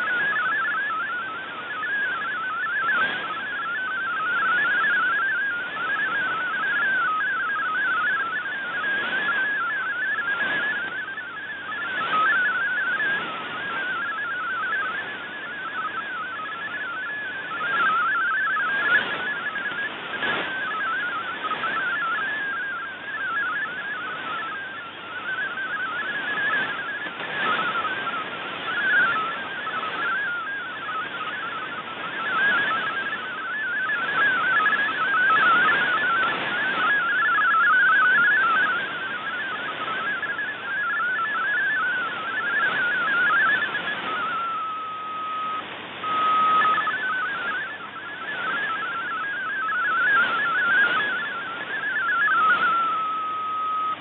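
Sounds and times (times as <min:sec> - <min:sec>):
radio hiss and static: 0:00.0 - 0:54.0
warble of hopping digital tones: 0:00.0 - 0:54.0.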